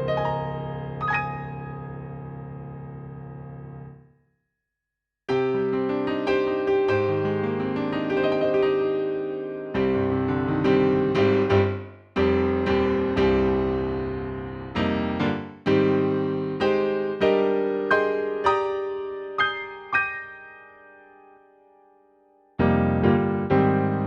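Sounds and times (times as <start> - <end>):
digital piano playing chords: 0.0 - 3.9, 5.3 - 21.7, 22.6 - 24.0.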